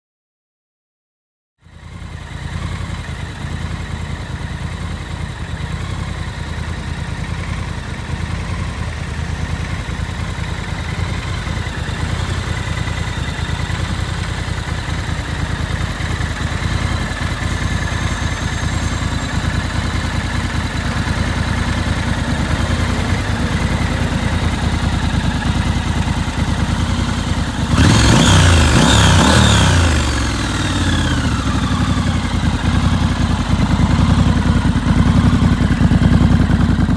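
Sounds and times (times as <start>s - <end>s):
motorcycle engine idling and revving: 1.6s - 36.9s.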